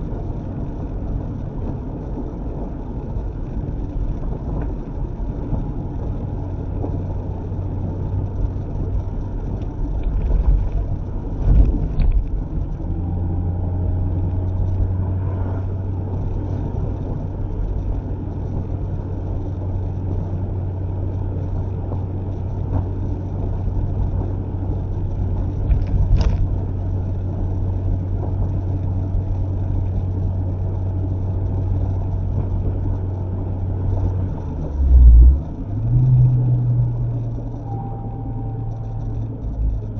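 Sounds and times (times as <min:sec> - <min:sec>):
car engine drone: 0:00.0 - 0:39.9.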